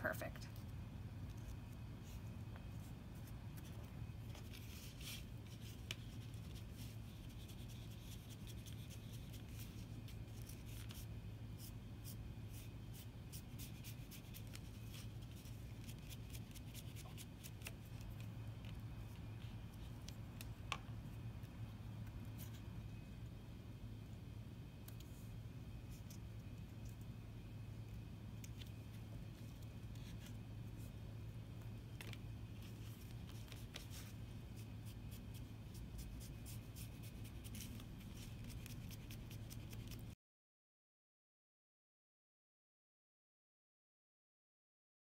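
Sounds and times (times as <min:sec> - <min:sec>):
steady low hum: 0:00.0 - 0:40.2.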